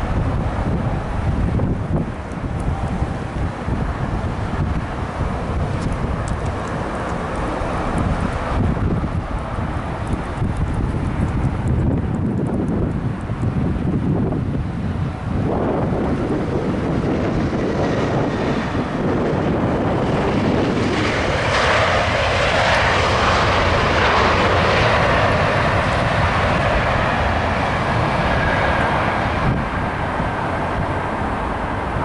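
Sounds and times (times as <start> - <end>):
jet engines roaring: 0.0 - 32.0
wind rumbling on microphone: 0.0 - 32.0.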